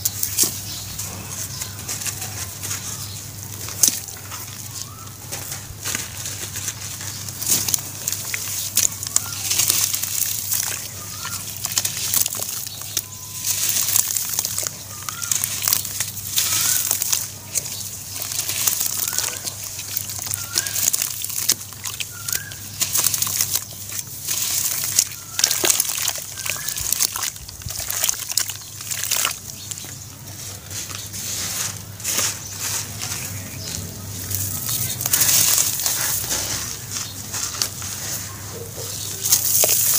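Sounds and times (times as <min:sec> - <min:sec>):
small crackles: 0:00.0 - 0:39.9
wet ash slurry squelching: 0:00.0 - 0:39.9.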